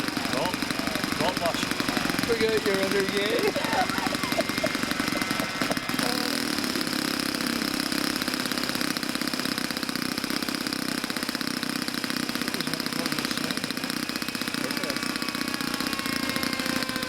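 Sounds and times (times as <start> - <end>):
model aircraft engine running: 0.0 - 17.0.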